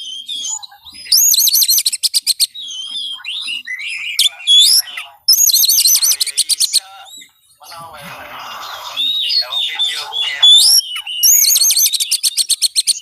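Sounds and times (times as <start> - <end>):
bird song with whistles and trills: 0.0 - 13.0.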